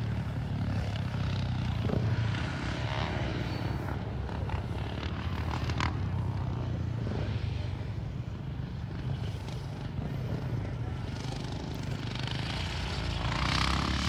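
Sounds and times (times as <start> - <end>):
quad engine droning: 0.0 - 14.0.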